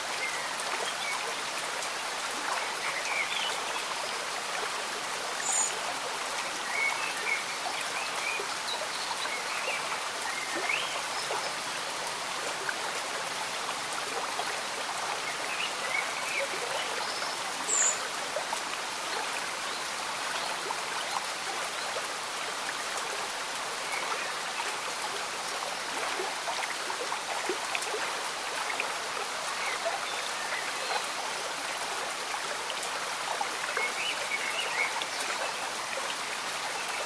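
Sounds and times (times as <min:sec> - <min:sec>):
gentle rain: 0:00.0 - 0:37.0
stream bubbling and trickling: 0:00.0 - 0:37.0.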